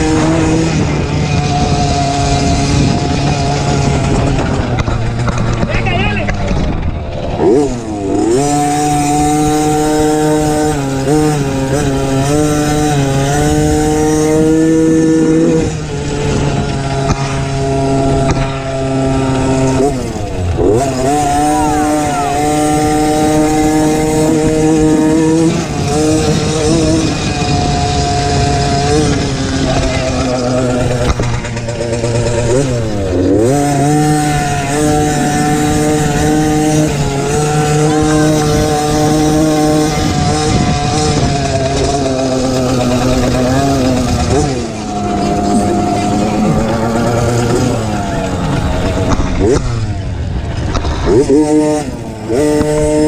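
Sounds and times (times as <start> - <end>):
small motorbike engine revving: 0.0 - 53.0.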